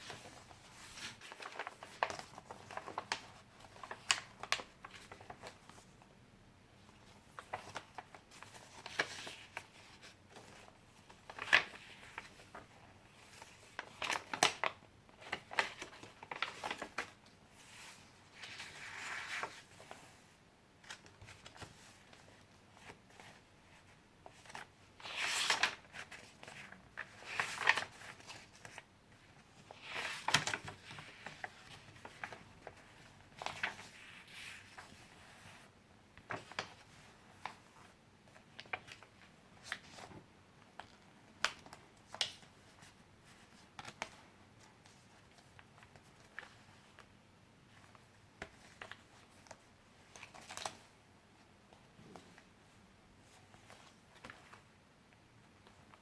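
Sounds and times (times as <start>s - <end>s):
paper pages rustling: 0.0s - 5.9s, 7.0s - 51.0s, 53.2s - 54.7s.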